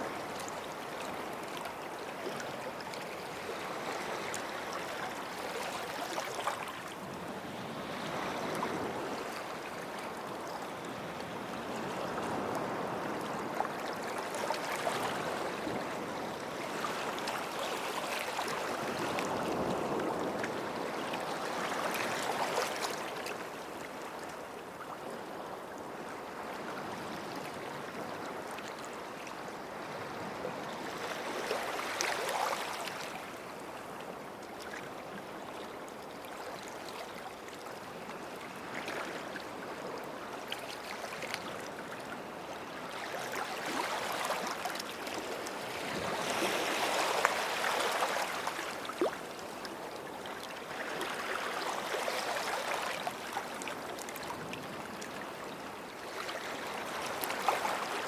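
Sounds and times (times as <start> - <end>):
small waves washing on shore: 0.0 - 58.0.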